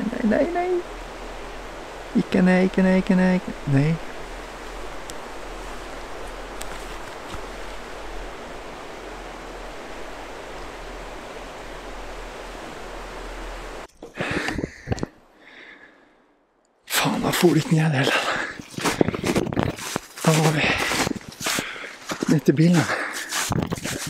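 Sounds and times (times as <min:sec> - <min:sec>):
rushing outdoor noise: 0:00.0 - 0:16.0, 0:16.8 - 0:24.0.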